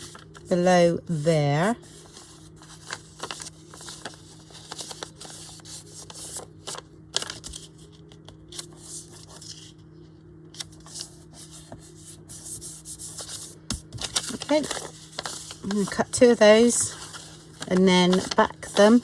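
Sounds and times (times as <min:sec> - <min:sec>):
paper rustling: 0:01.9 - 0:09.8, 0:10.5 - 0:19.0.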